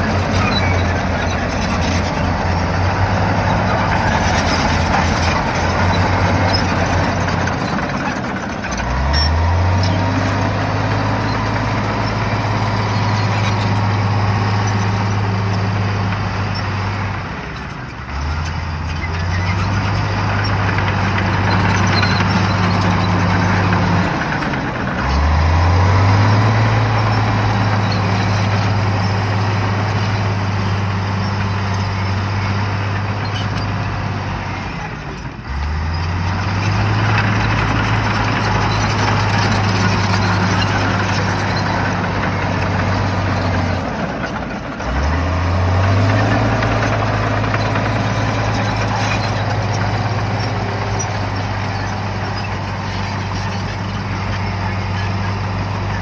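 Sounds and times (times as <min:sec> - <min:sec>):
bulldozer diesel engine under load: 0:00.0 - 0:56.0.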